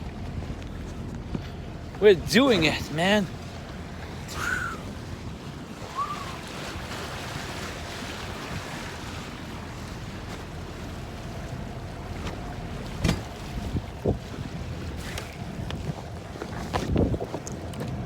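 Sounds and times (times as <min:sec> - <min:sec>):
wind buffeting microphone: 0:00.0 - 0:09.8, 0:12.9 - 0:18.0
rush of wind and water: 0:00.0 - 0:18.0.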